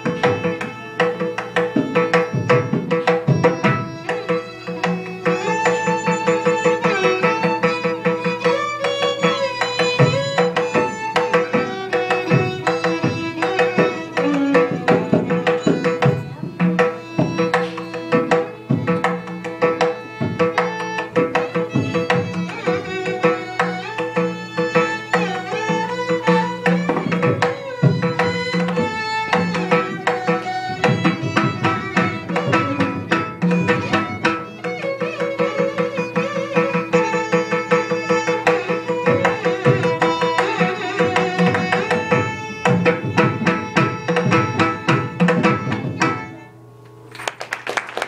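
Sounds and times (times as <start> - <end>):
hand drum strokes: 0.0 - 47.0.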